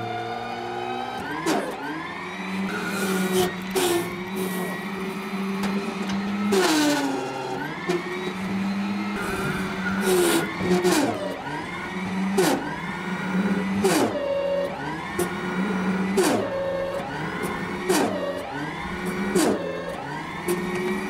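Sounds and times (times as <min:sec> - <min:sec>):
electric motor whining under load: 0:00.0 - 0:21.0.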